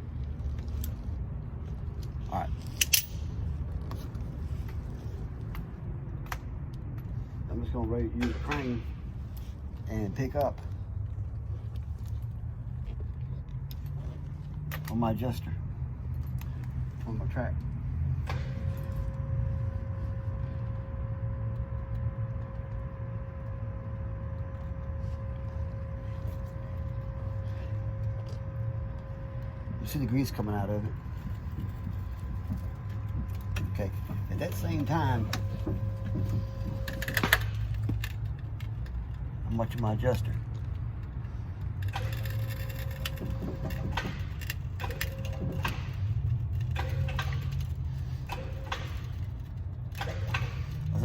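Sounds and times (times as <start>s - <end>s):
crane whine: 0.0s - 51.0s
engine running with low rumble: 0.0s - 51.0s.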